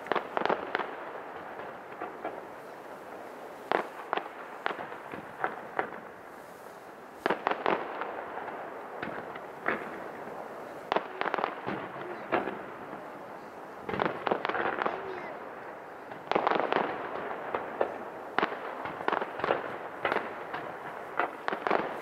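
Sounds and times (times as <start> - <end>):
fireworks bursting: 0.0 - 22.0
steady background hiss: 0.0 - 22.0.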